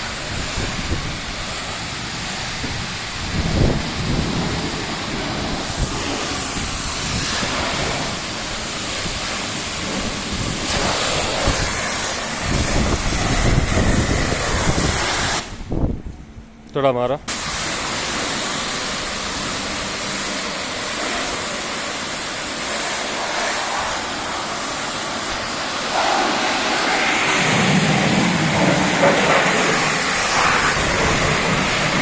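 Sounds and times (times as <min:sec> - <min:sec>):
pressure washer water jet hissing: 0:00.0 - 0:15.6, 0:17.3 - 0:32.0
pump low rumble: 0:00.0 - 0:32.0.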